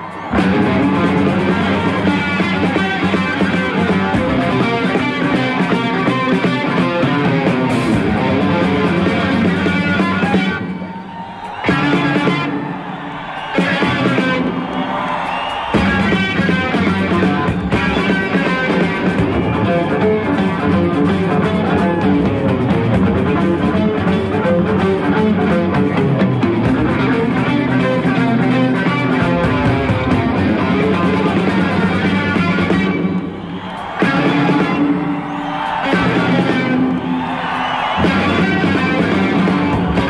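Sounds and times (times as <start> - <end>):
rock music with guitar: 0.0 - 40.0.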